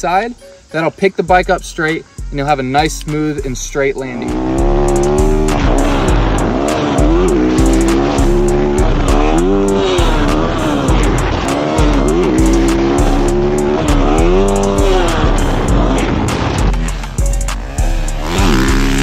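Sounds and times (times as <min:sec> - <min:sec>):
hip-hop beat with deep bass: 0:00.0 - 0:19.0
dirt bike engine revving: 0:03.4 - 0:19.0.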